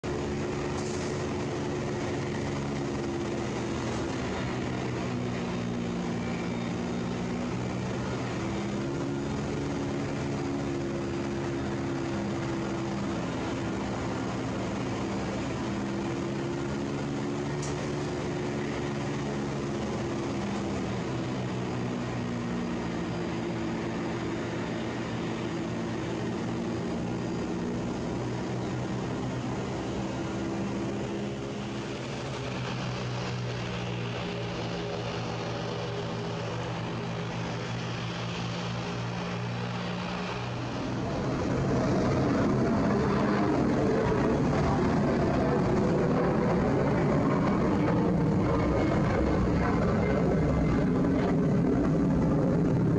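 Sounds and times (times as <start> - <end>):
jet engines droning: 0.0 - 52.9.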